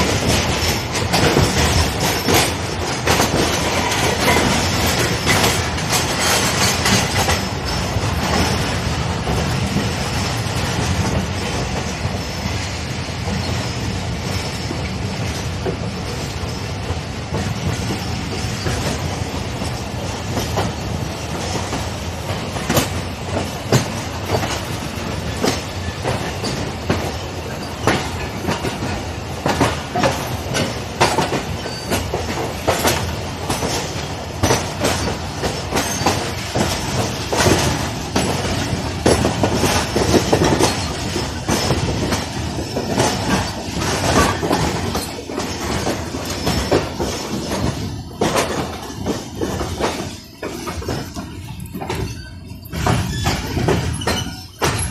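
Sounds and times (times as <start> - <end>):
train wheels rumbling clatter: 0.0 - 54.9
wheels clacking over rail joints: 0.0 - 54.9.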